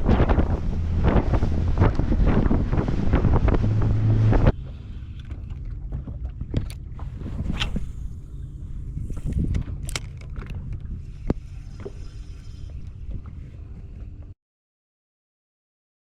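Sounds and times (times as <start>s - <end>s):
boat motor running: 0.0s - 14.4s
steady low hum: 0.0s - 14.4s
wind buffeting microphone: 0.0s - 14.4s.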